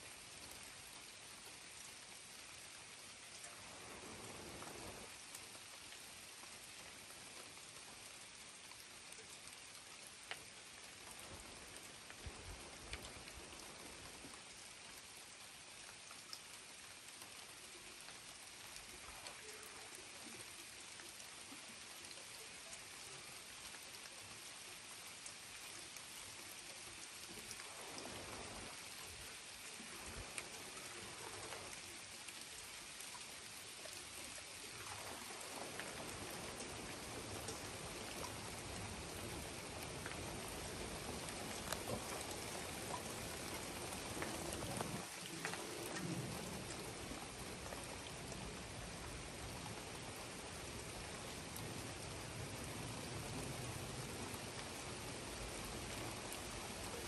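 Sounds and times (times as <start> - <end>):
steady rain: 0.0 - 57.0
raindrops ticking: 3.3 - 24.2, 26.0 - 57.0.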